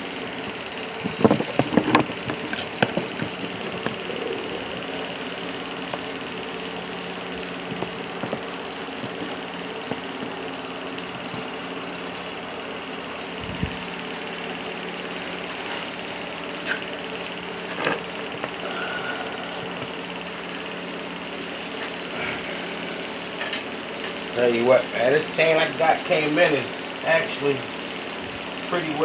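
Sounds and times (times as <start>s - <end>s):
steady mechanical hum: 0.0s - 29.0s.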